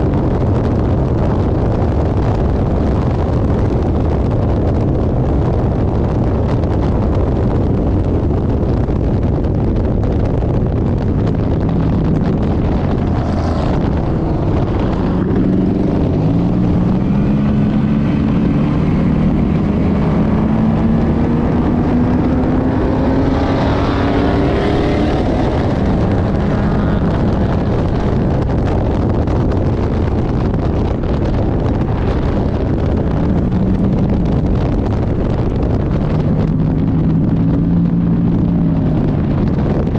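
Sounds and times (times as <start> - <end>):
race car engine: 0.0 - 39.9
road noise: 0.0 - 39.9.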